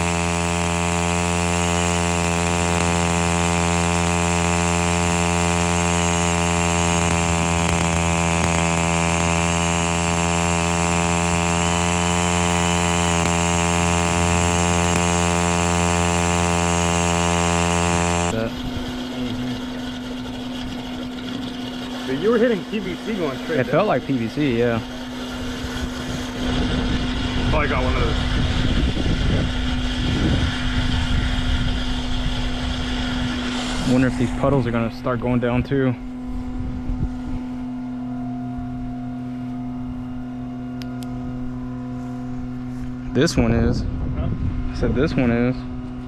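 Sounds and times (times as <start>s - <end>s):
small gasoline engine running: 0.0s - 43.9s
steady hum: 0.0s - 46.0s.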